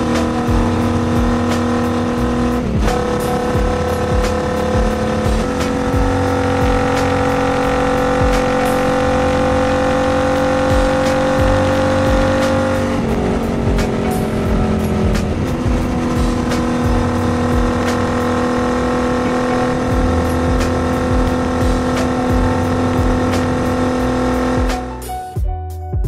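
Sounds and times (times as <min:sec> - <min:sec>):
motorcycle engine running: 0:00.0 - 0:25.1.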